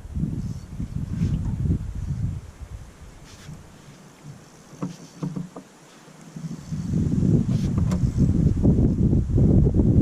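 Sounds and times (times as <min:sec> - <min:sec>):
wind buffeting microphone: 0:00.0 - 0:05.5, 0:06.3 - 0:10.0.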